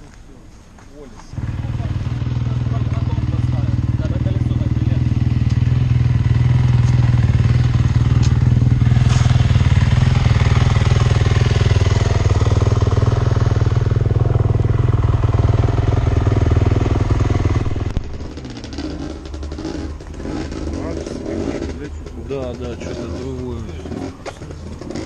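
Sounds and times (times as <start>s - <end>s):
vehicle engine running: 1.4s - 25.0s.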